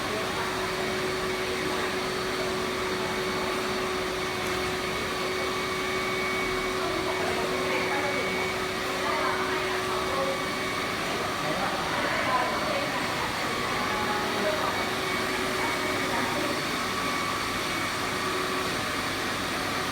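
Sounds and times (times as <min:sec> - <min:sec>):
vacuum cleaner running: 0:00.0 - 0:19.9.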